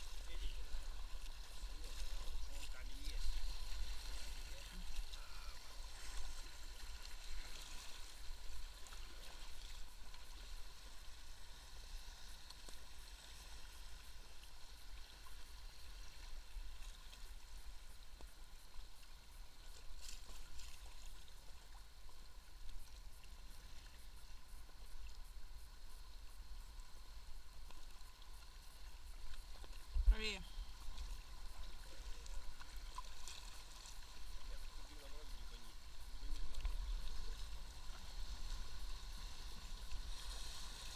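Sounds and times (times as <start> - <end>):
water splashing around kayak: 0.0 - 40.9.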